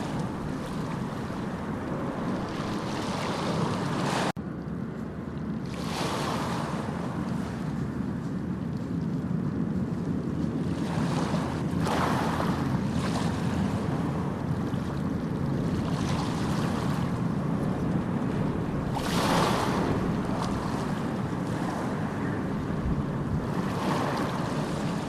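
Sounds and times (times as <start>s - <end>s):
sea waves washing ashore: 0.0s - 25.0s.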